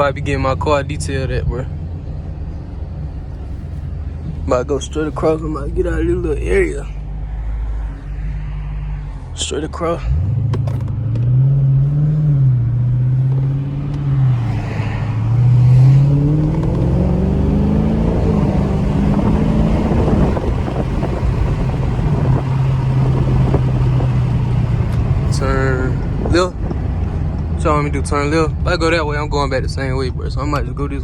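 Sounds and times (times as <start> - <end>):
car engine pulling away: 0.0 - 31.0.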